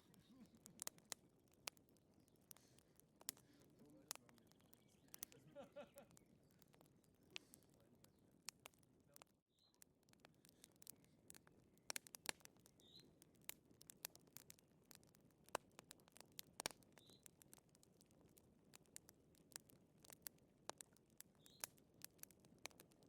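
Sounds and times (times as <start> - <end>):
wood fire crackling softly: 0.0 - 23.0.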